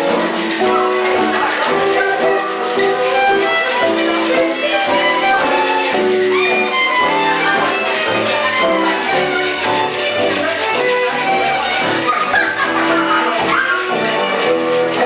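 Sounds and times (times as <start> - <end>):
live band music: 0.0 - 15.0
violin playing melody: 0.0 - 15.0.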